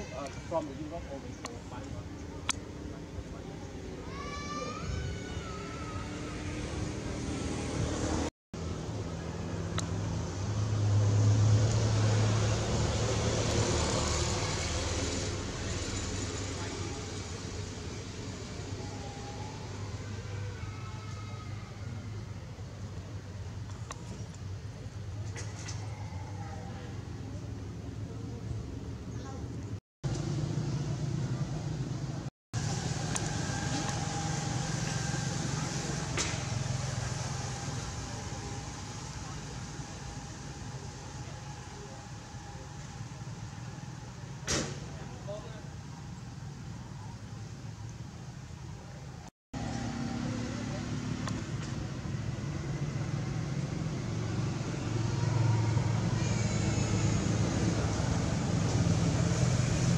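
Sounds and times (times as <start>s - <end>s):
road noise: 0.0s - 59.9s
vehicle engine hum passing: 0.6s - 47.2s, 48.2s - 59.9s.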